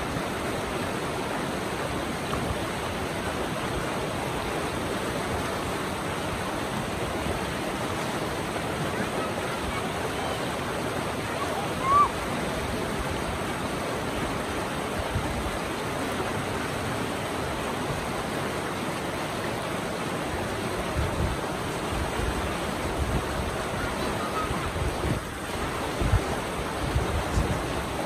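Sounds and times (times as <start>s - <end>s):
river rapids rushing: 0.0s - 28.0s.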